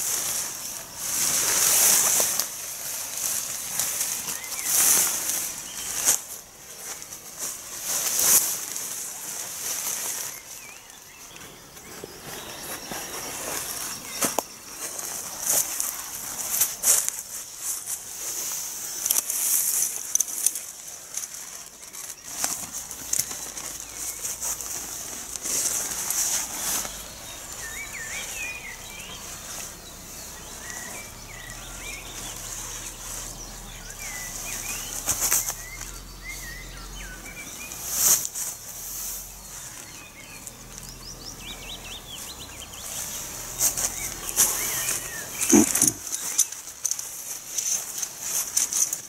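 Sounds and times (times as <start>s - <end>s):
tent flysheet rustling and flapping: 0.0s - 49.0s
faint bird chirps: 3.2s - 48.9s.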